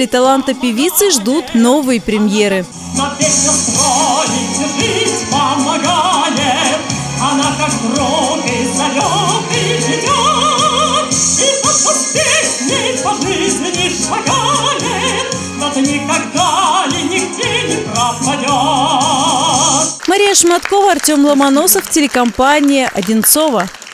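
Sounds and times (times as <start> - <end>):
instrumental accompaniment: 0.0 - 20.3
woman singing with vibrato: 0.0 - 22.0.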